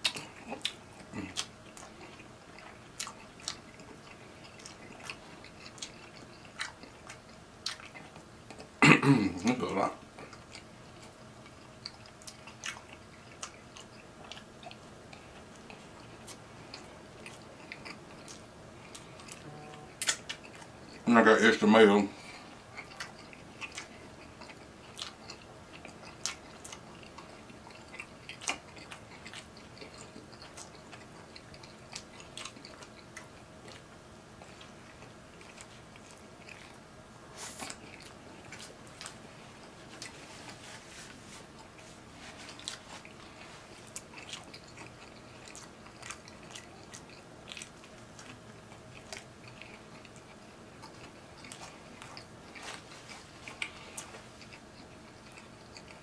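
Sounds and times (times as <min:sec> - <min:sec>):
chewing sandwich: 0:00.0 - 0:21.0, 0:22.1 - 0:56.0.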